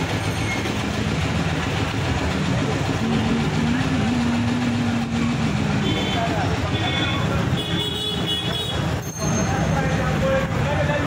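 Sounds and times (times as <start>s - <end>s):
auto-rickshaw engine idling: 0.0s - 11.0s
street noise: 0.0s - 11.0s.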